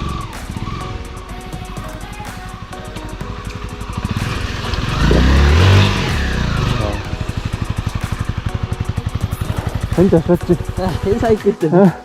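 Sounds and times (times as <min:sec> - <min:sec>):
motorcycle passing: 0:00.0 - 0:11.4
background music with a beat: 0:00.0 - 0:12.0.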